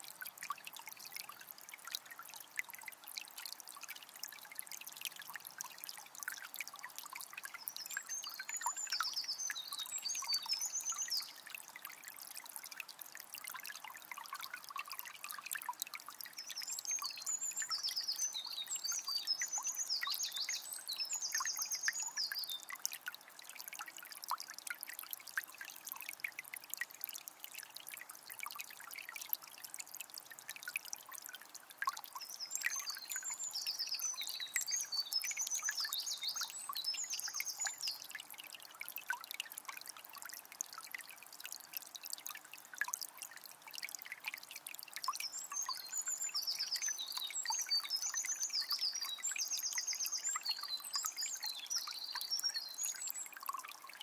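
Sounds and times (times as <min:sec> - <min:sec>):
river trickling and babbling: 0:00.0 - 0:54.0.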